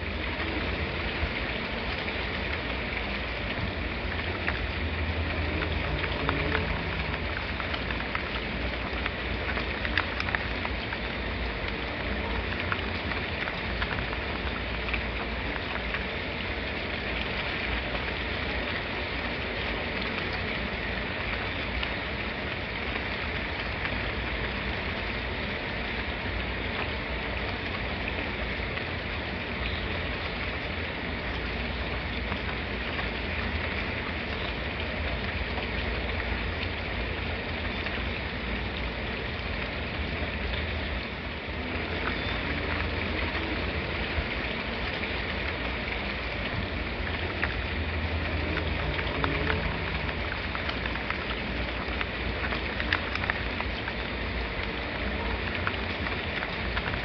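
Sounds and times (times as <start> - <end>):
rain falling: 0.0 - 57.0
raindrop ticks: 0.0 - 57.0.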